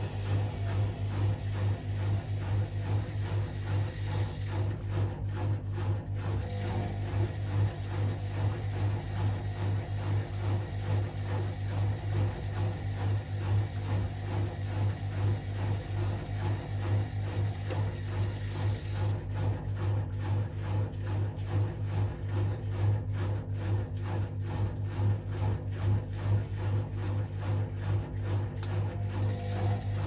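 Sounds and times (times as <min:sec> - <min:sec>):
washing machine motor hum: 0:00.0 - 0:30.0.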